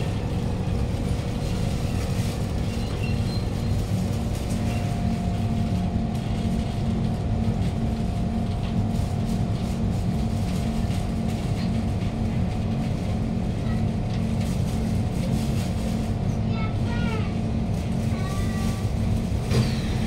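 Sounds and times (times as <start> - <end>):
train wheels and motors rumbling: 0.0 - 20.0.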